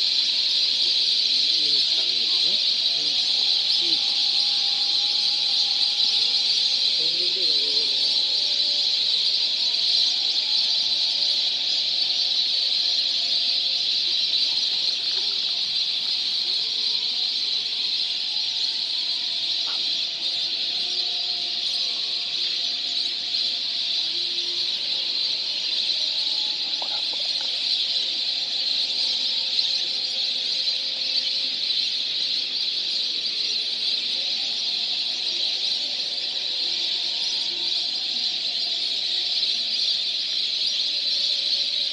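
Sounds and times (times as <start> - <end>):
flock of birds calling: 0.0 - 41.9.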